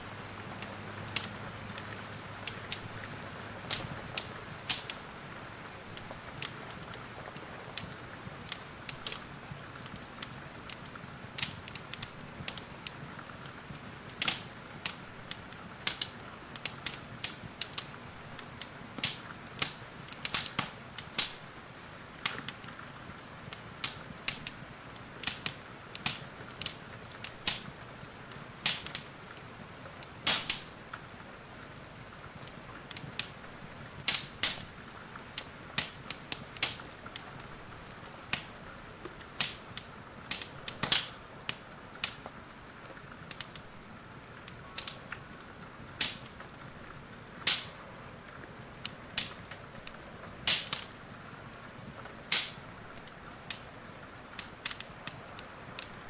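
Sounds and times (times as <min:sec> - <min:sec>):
wood fire crackling and popping: 0:00.2 - 0:56.0.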